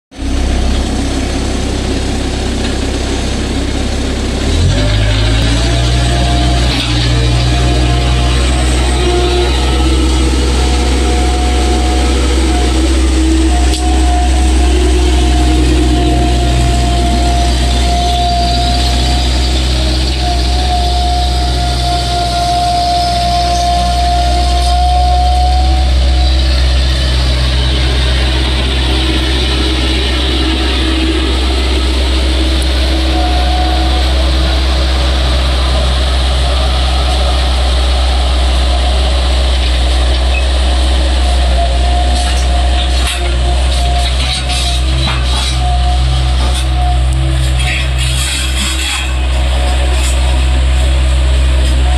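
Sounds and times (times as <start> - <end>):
diesel engine running: 0.1 - 51.9
steady whine: 0.1 - 51.9.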